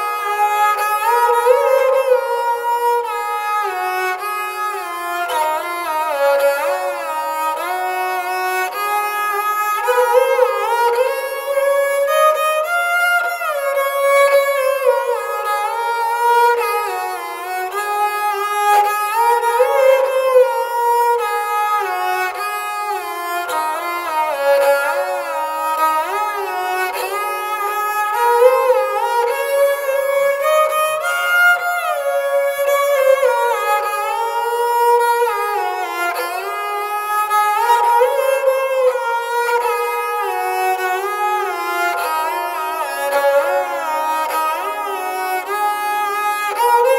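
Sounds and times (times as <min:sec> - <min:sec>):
bowed string instrument melody: 0:00.0 - 0:46.9.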